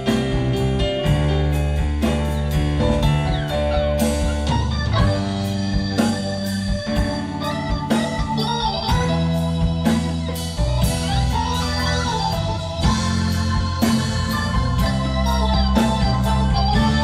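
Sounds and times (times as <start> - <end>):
electric guitar lead: 0.0 - 17.0
rock band playing: 0.0 - 17.0.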